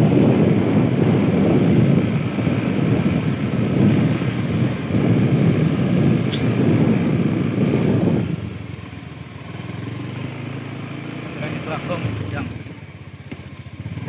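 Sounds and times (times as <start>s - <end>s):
road noise: 0.0s - 14.0s
small motorcycle engine running: 0.0s - 14.0s.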